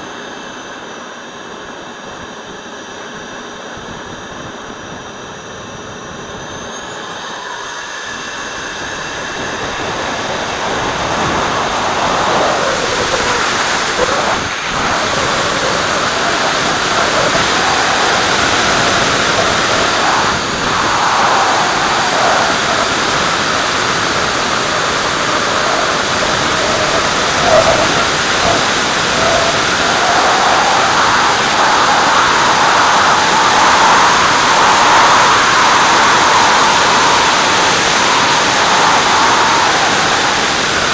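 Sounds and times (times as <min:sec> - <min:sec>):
model jet engine whine: 0:00.0 - 0:40.9
wind rushing on microphone: 0:03.8 - 0:40.9.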